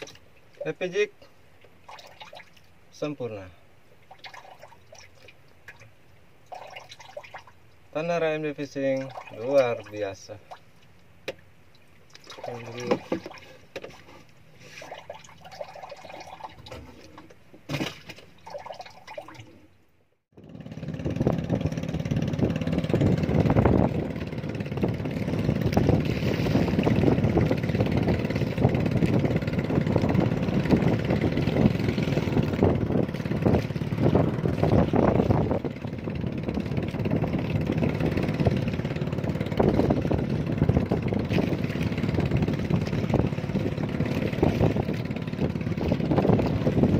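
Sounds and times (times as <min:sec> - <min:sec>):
rushing wind and water: 0:00.0 - 0:19.7, 0:20.6 - 0:46.9.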